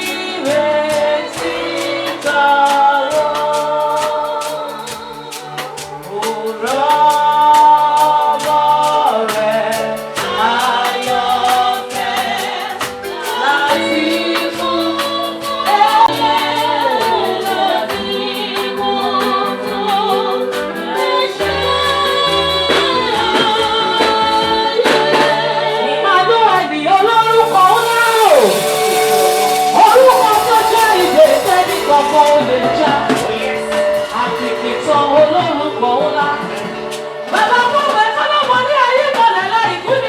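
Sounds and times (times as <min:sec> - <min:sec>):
band with keyboard and percussion: 0:00.0 - 0:40.0
woman singing lead: 0:00.0 - 0:40.0.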